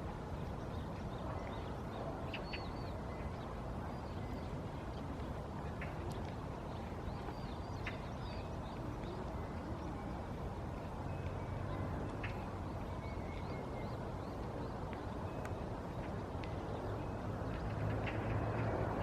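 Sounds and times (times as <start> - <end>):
songbirds chirping and twittering: 0.0 - 19.0.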